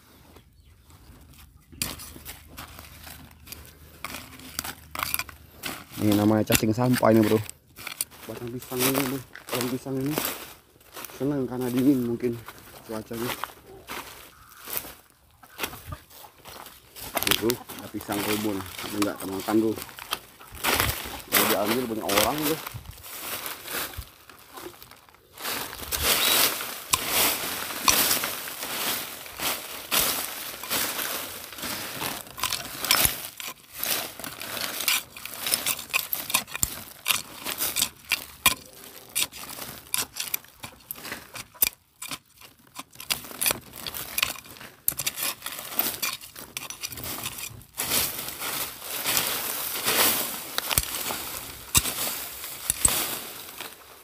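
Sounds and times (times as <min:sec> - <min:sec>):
dry leaves and plastic rustling: 0:00.0 - 0:54.0
machete scraping through soil: 0:01.8 - 0:12.2, 0:16.6 - 0:24.8, 0:25.4 - 0:54.0.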